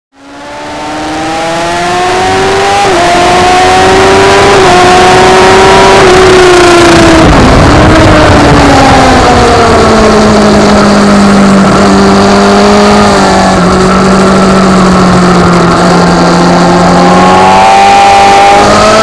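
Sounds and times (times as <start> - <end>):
motorcycle engine at full throttle: 0.1 - 19.0
heavy wind noise: 2.7 - 19.0.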